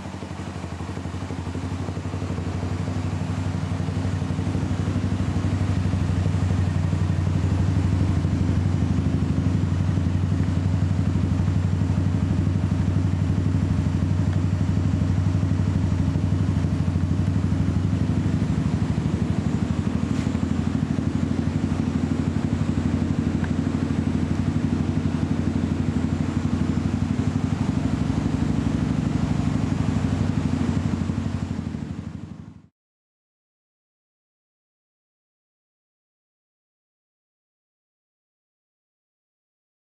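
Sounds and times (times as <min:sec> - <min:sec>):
buggy engine idling: 0:00.0 - 0:32.7.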